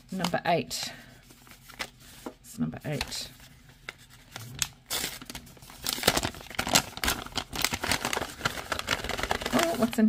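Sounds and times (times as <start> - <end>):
paper bag crinkling: 1.5 - 10.0.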